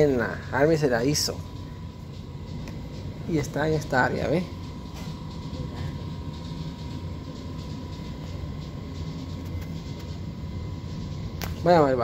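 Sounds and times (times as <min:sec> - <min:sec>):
air conditioning hum: 0:00.0 - 0:12.0
thin high whine: 0:00.0 - 0:12.0.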